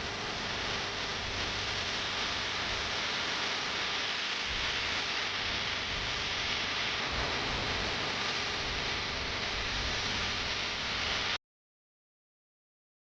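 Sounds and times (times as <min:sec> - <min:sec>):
steady hiss: 0:00.0 - 0:11.4.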